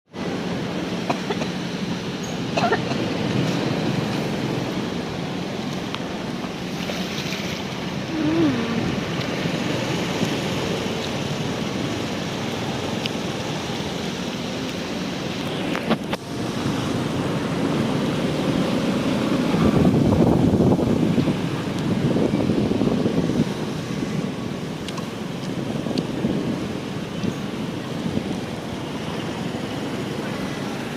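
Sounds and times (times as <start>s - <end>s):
floodwater rushing: 0.1s - 30.9s
wind on microphone: 3.0s - 30.9s.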